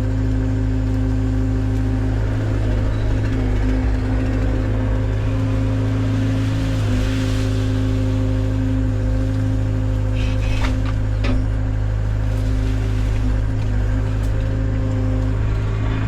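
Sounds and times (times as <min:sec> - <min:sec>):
machine engine running: 0:00.0 - 0:16.0.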